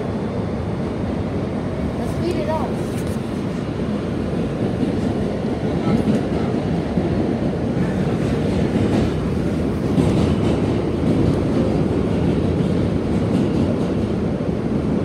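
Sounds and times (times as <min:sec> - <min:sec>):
subway car wheels rumbling on rail: 0:00.0 - 0:15.0.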